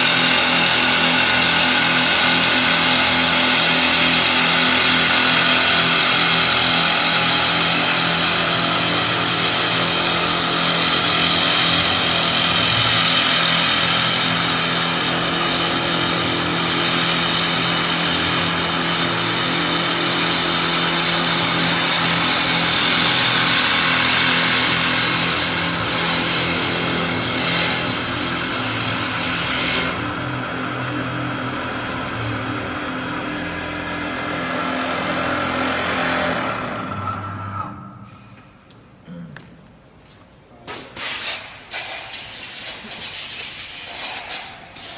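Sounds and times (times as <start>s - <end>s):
cutters shaving wood: 0.0s - 37.5s
low machine hum: 0.0s - 39.4s.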